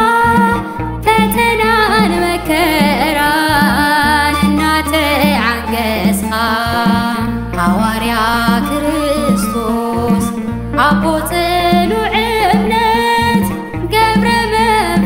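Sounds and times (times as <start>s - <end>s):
instrumental accompaniment: 0.0s - 15.0s
woman singing a hymn: 0.0s - 15.0s.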